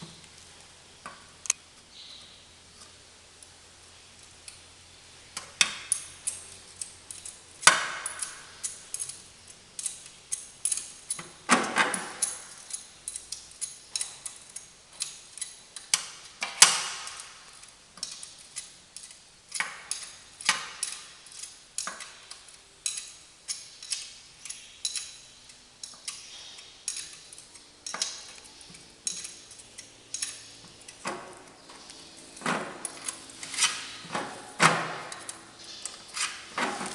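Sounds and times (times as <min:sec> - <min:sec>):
metal tools clinking and knocking: 0:05.5 - 0:36.9.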